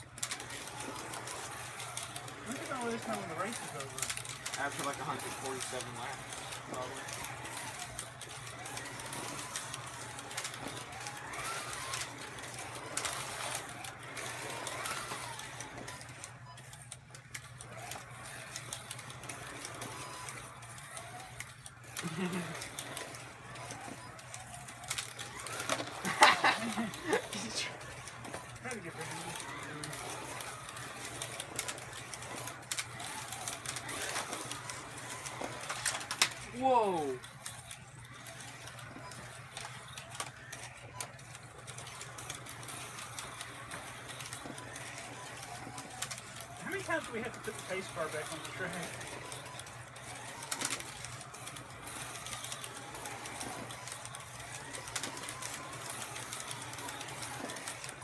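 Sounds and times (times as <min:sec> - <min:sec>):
slot car motors whining: 0:00.0 - 0:58.0.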